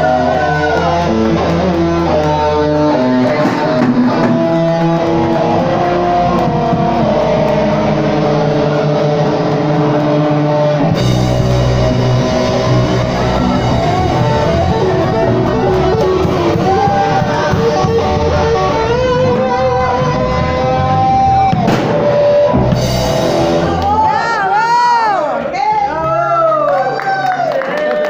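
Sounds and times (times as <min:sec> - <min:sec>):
drum kit: 0:00.0 - 0:25.0
electric guitar lead: 0:00.0 - 0:26.2.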